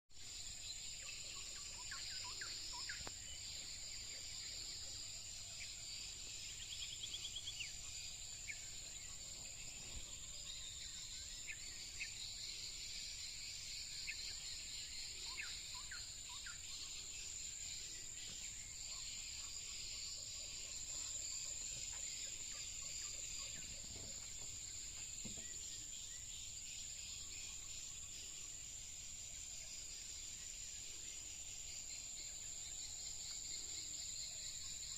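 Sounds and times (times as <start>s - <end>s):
high-pitched insect drone: 0.2s - 34.9s.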